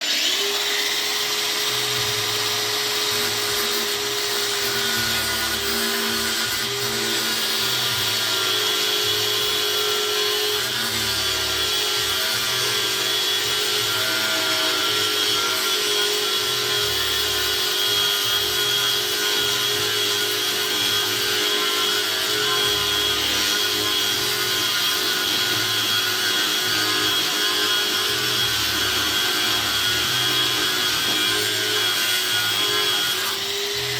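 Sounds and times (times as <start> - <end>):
angle grinder whining: 0.0 - 33.9.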